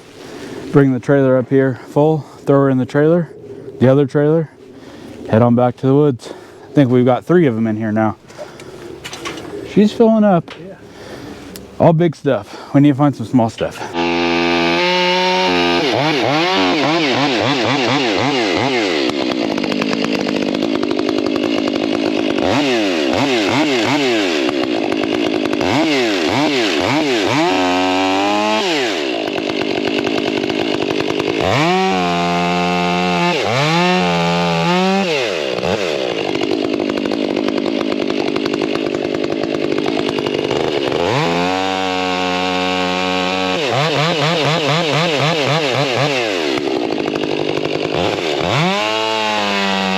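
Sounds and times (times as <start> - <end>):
chainsaw revving and cutting wood: 3.8 - 12.0, 12.8 - 49.9.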